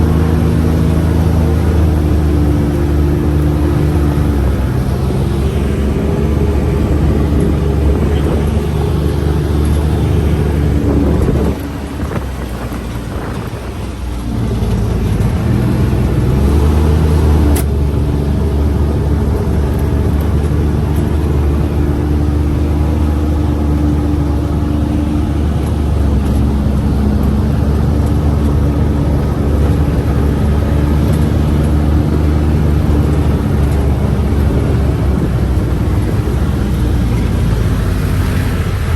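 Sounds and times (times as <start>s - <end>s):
road and rattle noise: 0.0s - 38.9s
vehicle engine drone: 0.0s - 38.9s.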